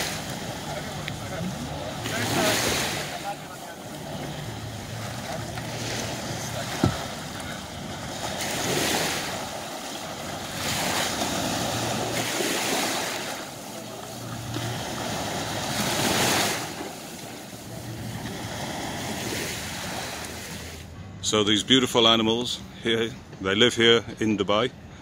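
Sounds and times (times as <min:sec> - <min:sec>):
small waves washing in: 0:00.0 - 0:20.9.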